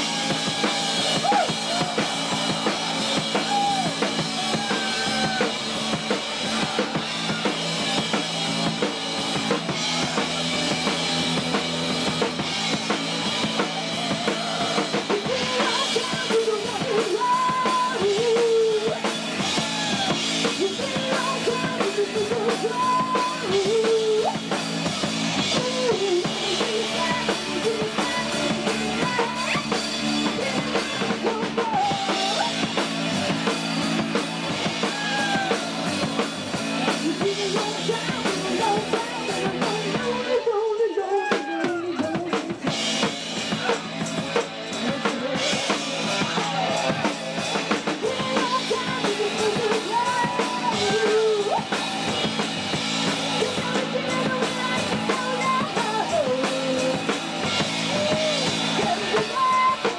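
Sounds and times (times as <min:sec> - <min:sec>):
bass drum and snare: 0:00.0 - 0:40.2, 0:41.4 - 0:59.9
live rock band playing: 0:00.0 - 0:59.9.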